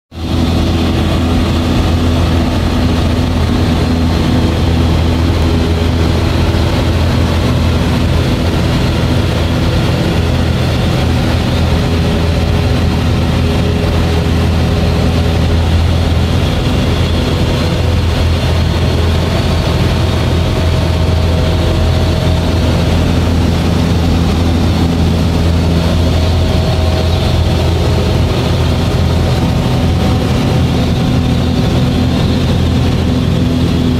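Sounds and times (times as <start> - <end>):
light aircraft engine hum: 0.1 - 33.9.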